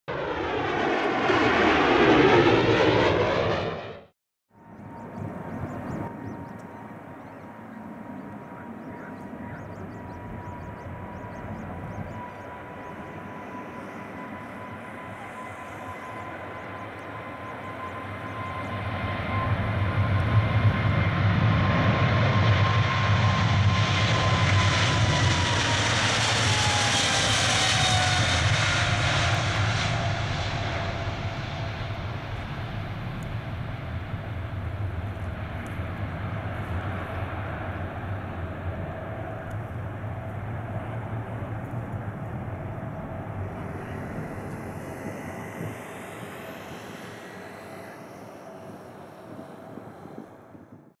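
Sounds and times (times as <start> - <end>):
jet engines at takeoff thrust: 0.1 - 51.0.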